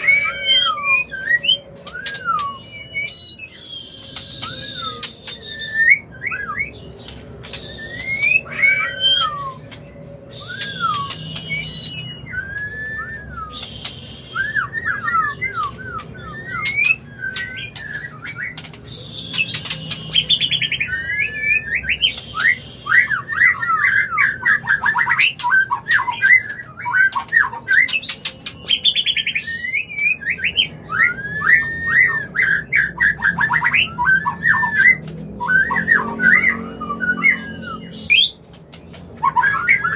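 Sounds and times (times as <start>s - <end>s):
bird whistled song: 0.0s - 39.9s.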